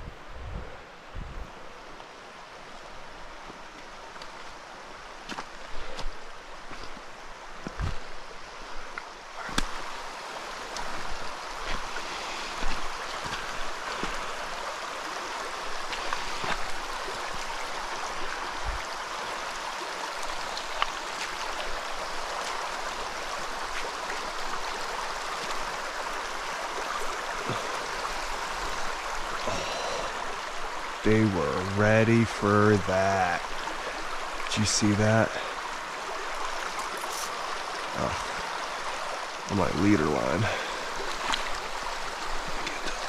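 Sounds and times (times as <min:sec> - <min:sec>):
stream running over rocks: 0:00.0 - 0:43.0.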